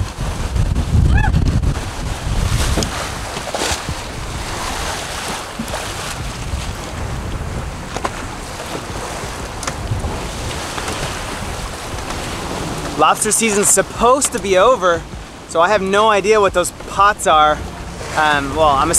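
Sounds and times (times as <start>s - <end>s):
water splashing along hulls: 0.0s - 18.9s
wind buffeting microphone: 0.0s - 18.9s.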